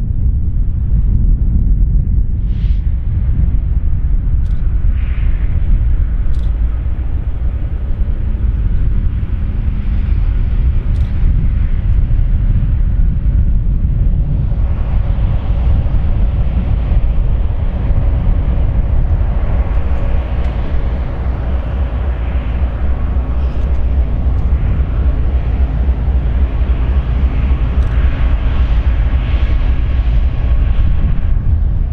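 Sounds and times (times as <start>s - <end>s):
locomotive low rumble: 0.0s - 31.9s.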